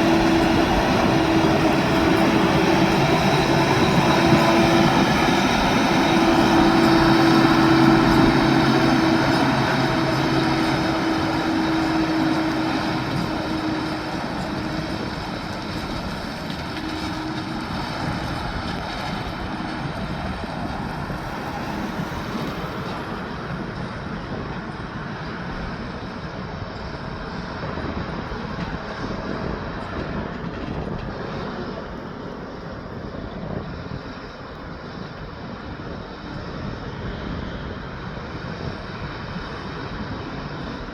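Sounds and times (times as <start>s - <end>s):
heavy truck passing: 0.0s - 35.0s
road noise rumble: 0.0s - 40.9s.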